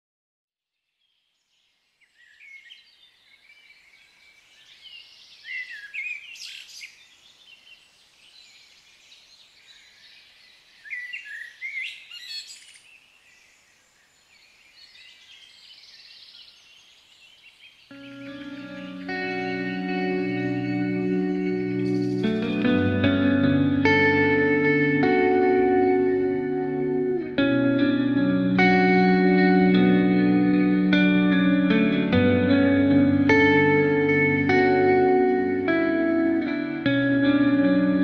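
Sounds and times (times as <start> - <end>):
songbirds chirping and singing: 1.0 - 38.0.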